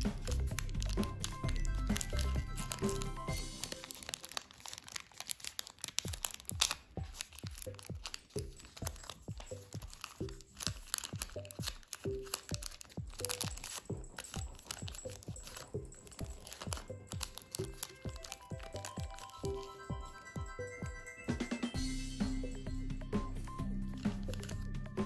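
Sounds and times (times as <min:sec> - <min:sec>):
paper crinkling and crackling: 0:00.0 - 0:20.7, 0:23.2 - 0:25.0
background music with low notes: 0:00.0 - 0:25.0.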